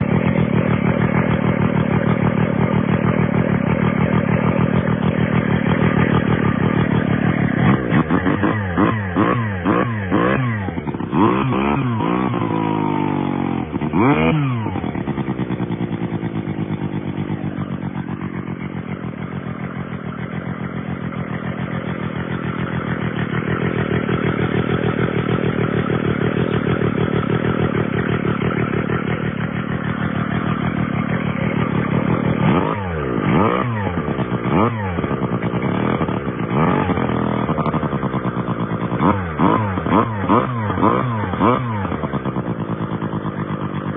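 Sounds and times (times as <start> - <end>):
chainsaw engine revving: 3.6 - 18.2, 23.0 - 43.9.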